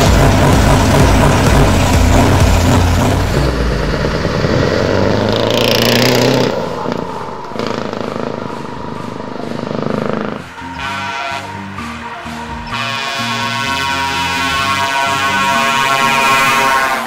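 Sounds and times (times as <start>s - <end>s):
truck diesel engine accelerating: 0.0s - 17.0s.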